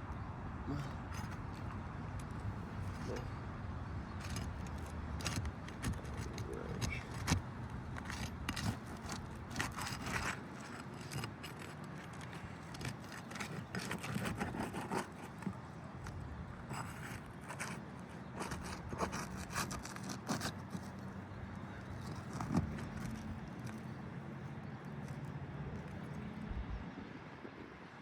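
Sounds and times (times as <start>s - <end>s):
shingles scraping and clicking: 0.9s - 3.3s, 4.1s - 24.1s.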